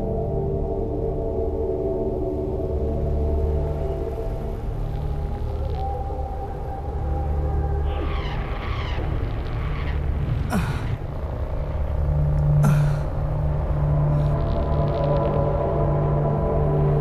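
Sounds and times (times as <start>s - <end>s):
low sustained drone: 0.0s - 17.0s.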